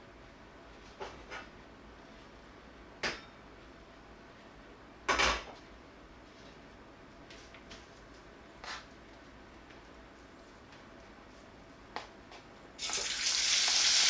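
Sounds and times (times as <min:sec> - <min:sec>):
faint steady gas hiss: 0:00.0 - 0:14.0.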